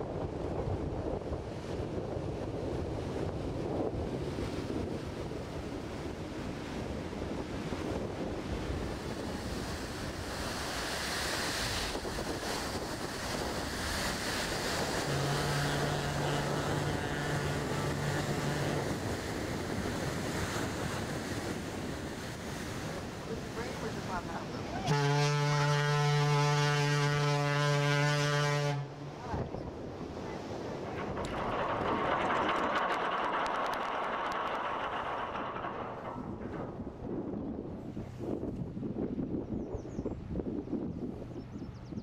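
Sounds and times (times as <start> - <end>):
bow wave rushing along hull: 0.0 - 38.5
wind on microphone: 0.0 - 42.0.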